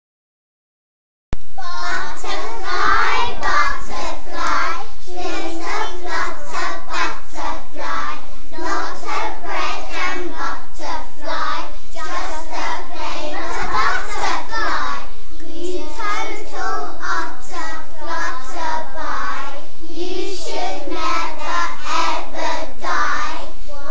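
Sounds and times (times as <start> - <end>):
children reciting in unison: 1.6 - 23.9.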